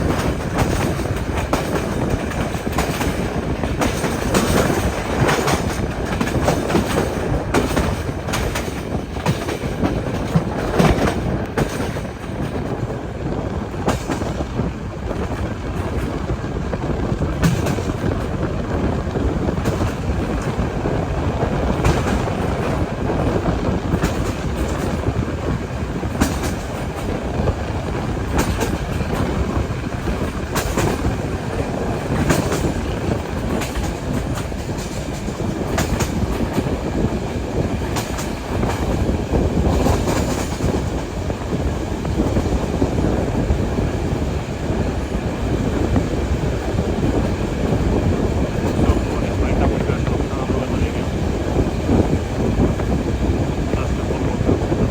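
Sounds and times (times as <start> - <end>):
train rumbling on track: 0.0 - 54.9
wheels clicking on rails: 0.0 - 54.9.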